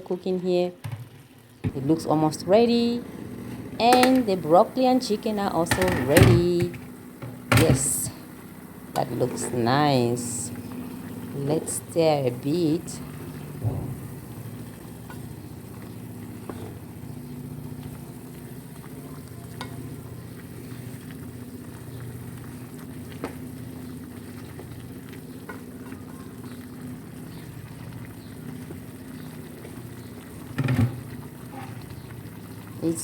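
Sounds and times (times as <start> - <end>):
food simmering and sizzling: 0.0 - 33.0.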